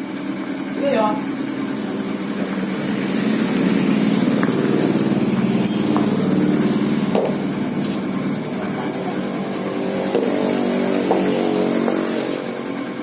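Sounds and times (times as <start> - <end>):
car engine running: 0.0 - 13.0
compressor rattling growl: 0.2 - 13.0.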